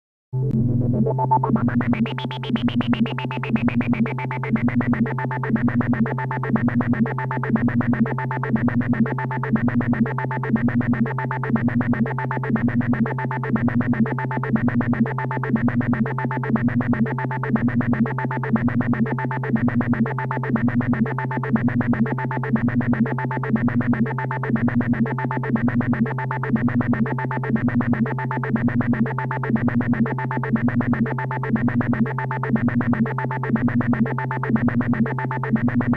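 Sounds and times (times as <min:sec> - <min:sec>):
repeating electronic vocoder pattern: 0:00.4 - 0:35.9.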